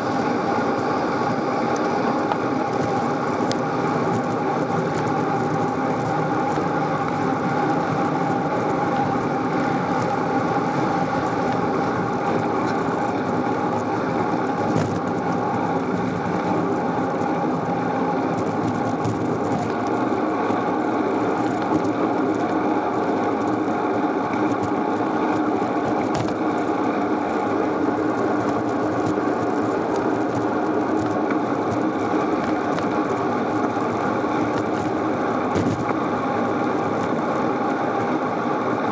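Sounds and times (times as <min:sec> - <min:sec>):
bicycle rolling hum: 0:00.0 - 0:38.9.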